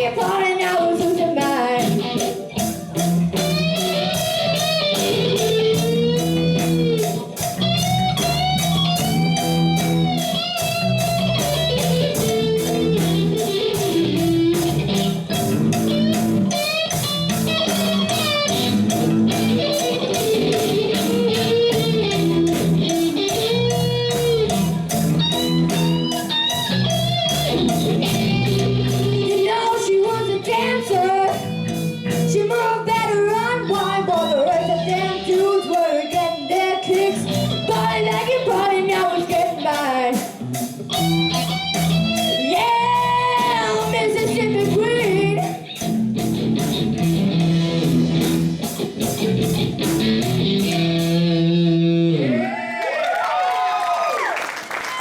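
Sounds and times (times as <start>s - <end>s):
drum beat: 0.0s - 33.4s, 34.9s - 51.4s
electric guitar lead: 0.0s - 52.6s
bass guitar: 0.0s - 52.7s.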